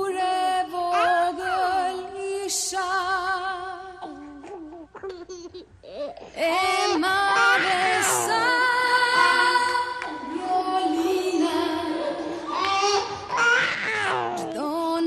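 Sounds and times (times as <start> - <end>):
woman singing into microphone: 0.0 - 4.5, 6.4 - 13.5, 14.1 - 15.0.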